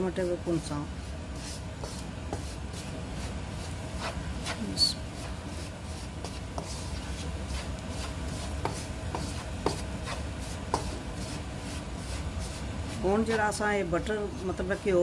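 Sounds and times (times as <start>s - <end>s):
wooden spatula scraping a wok: 0.9s - 13.7s.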